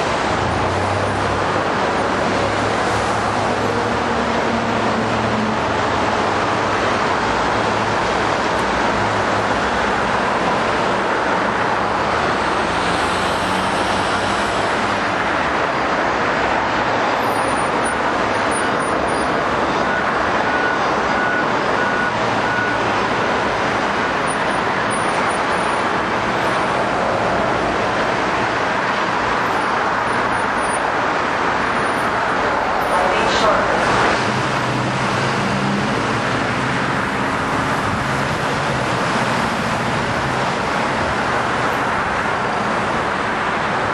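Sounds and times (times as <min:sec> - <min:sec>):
dense road traffic: 0:00.0 - 0:43.9
heavy vehicle engines droning: 0:00.0 - 0:43.9.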